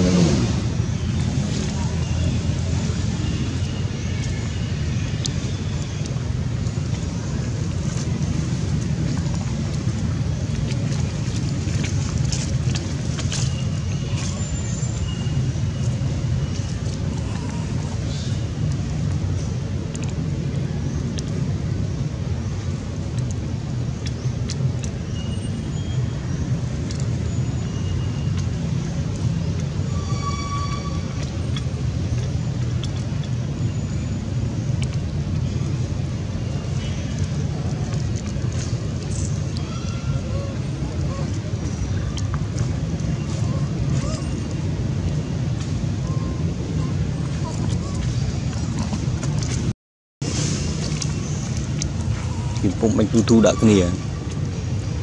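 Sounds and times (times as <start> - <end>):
low rumbling noise: 0.0 - 55.0.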